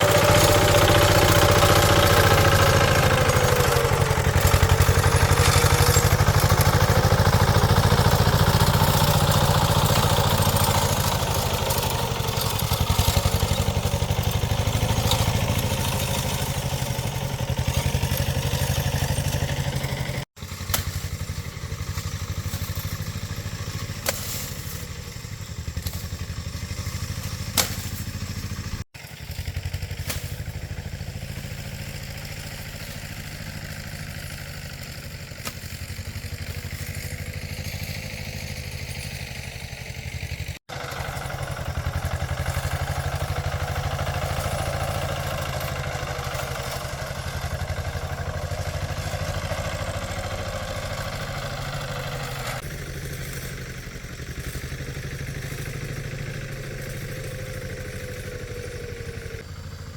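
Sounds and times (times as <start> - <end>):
engine clatter and knocks: 0.0 - 59.9
small engine running: 0.0 - 59.9.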